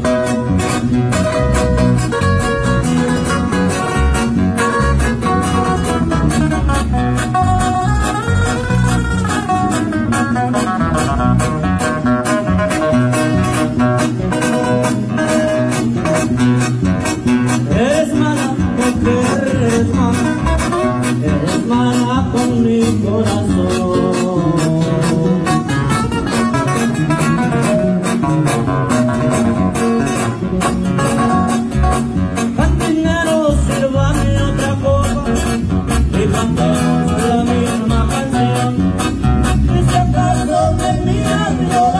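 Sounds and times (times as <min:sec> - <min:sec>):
acoustic guitars strummed: 0:00.0 - 0:41.9.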